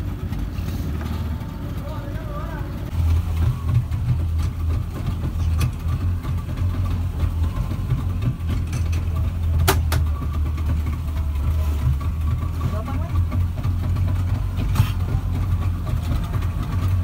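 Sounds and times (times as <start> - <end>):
speed boat engine droning: 0.0 - 17.0.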